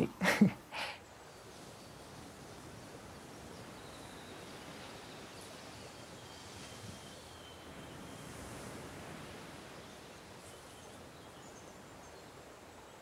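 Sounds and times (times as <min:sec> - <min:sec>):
air and leaves hissing: 0:00.7 - 0:12.8.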